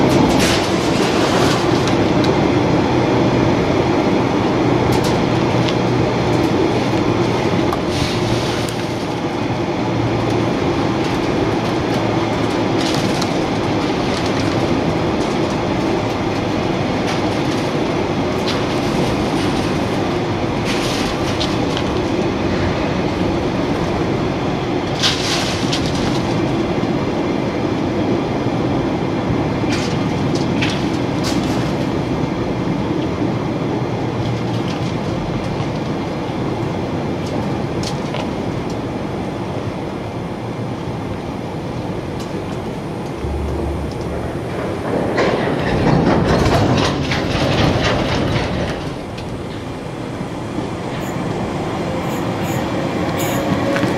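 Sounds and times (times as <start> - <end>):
freight train rolling past: 0.0 - 34.6, 39.0 - 53.9.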